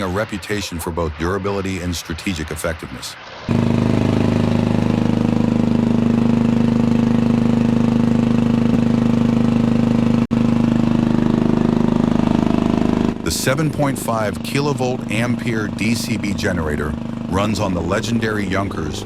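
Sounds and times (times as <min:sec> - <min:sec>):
diesel tank engine idling: 0:03.5 - 0:19.0.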